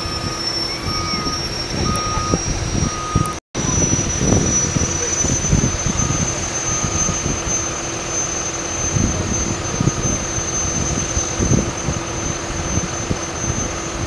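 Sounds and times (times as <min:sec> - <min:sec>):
wind on microphone: 0:00.0 - 0:07.9, 0:08.8 - 0:14.0
distant tractor engine whining: 0:00.0 - 0:14.0.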